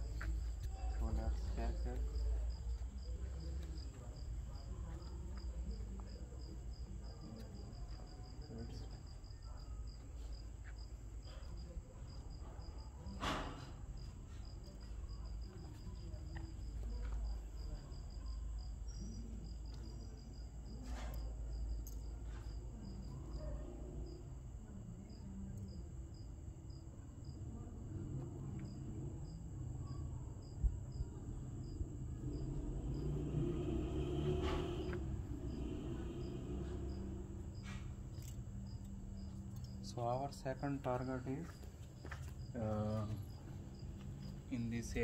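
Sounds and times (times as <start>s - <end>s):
cricket chirping: 0.0s - 45.0s.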